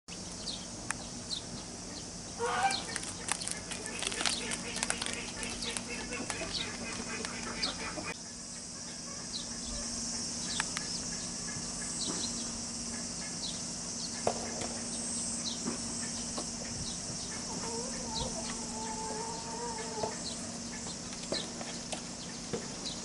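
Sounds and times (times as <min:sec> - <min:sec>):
high insect drone: 0:00.1 - 0:23.0.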